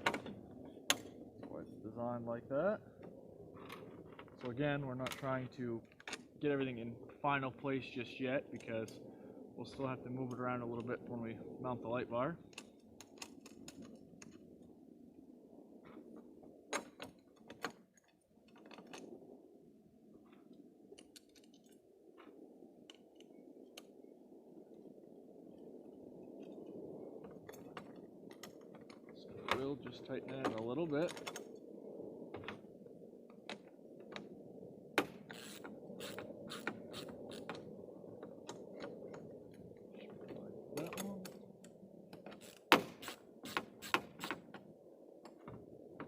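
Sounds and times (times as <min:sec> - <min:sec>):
faint steady background noise: 0:00.0 - 0:46.0
steady low hum: 0:00.0 - 0:46.0.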